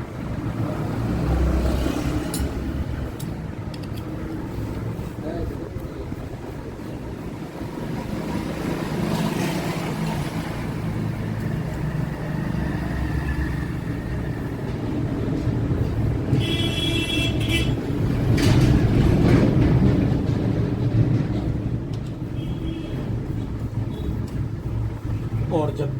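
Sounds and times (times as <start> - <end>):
street traffic rumble: 0.0 - 25.9.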